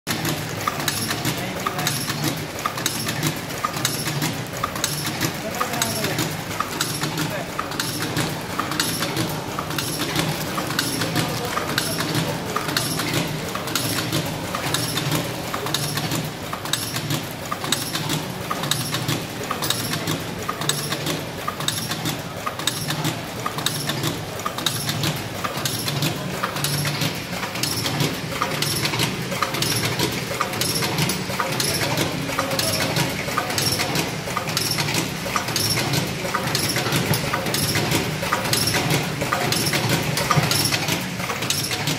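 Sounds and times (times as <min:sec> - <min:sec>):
packaging machine clacking: 0:00.1 - 0:41.9.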